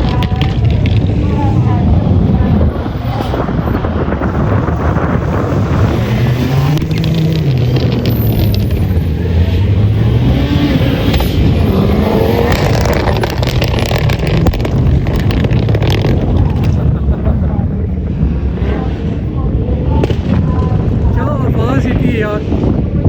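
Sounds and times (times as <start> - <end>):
exhaust crackles: 0.0 - 23.0
rally car engine revving hard: 0.2 - 23.0.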